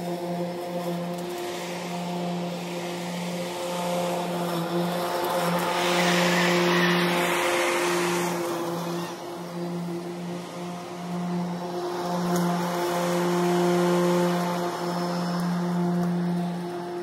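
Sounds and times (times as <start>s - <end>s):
electric mower running: 0.0s - 17.0s.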